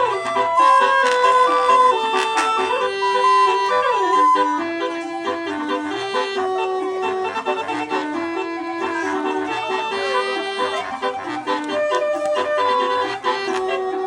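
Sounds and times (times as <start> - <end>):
reedy bus horn playing tune: 0.0 - 14.0.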